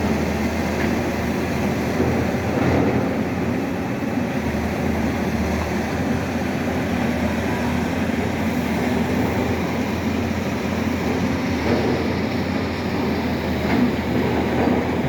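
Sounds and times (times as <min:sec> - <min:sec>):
heavy machinery engine humming: 0:00.0 - 0:15.0.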